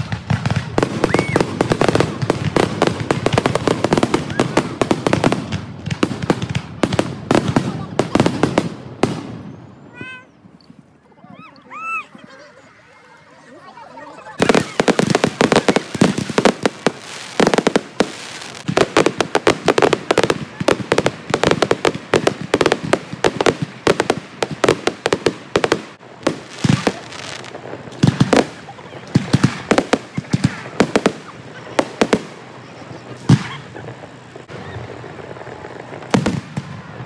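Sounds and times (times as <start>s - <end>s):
loud firework booms: 0.0s - 9.7s, 14.4s - 32.5s, 33.1s - 37.0s
fireworks bangs and crackles: 0.0s - 10.7s, 14.1s - 37.0s.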